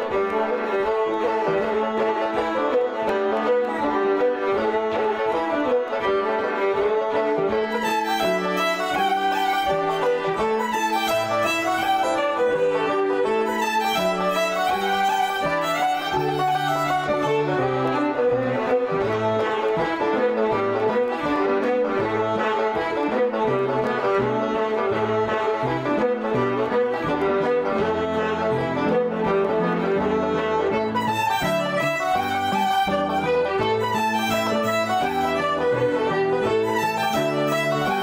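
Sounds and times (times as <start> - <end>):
banjo: 0.0 - 38.0
concertina: 0.0 - 38.0
fiddles leading a tune: 0.0 - 38.0
piano chords: 0.0 - 38.0.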